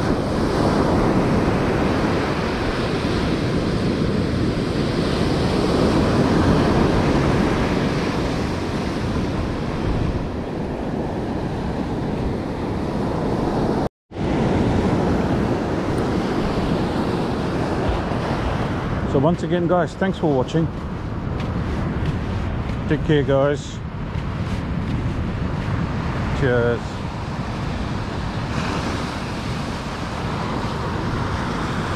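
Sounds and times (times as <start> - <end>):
ocean surf breaking on beach: 0.0 - 31.9
wind rumbling on microphone: 0.0 - 31.9.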